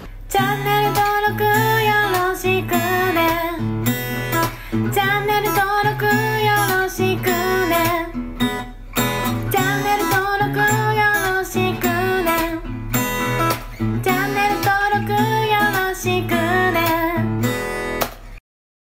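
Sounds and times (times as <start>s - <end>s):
strummed acoustic guitar music: 0.0s - 18.4s.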